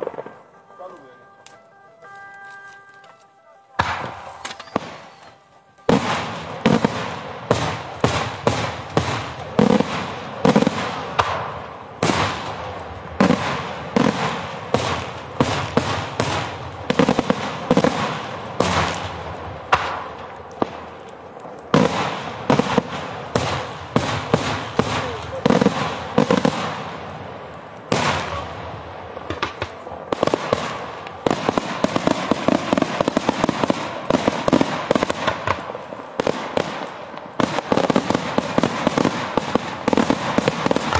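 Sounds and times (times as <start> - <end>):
firework bangs and crackling: 0.0 - 2.5, 3.8 - 40.9.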